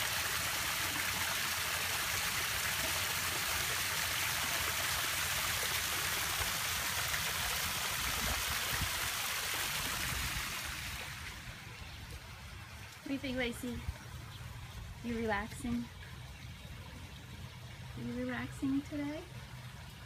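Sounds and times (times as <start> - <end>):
waterfall splashing into pond: 0.0 - 20.0.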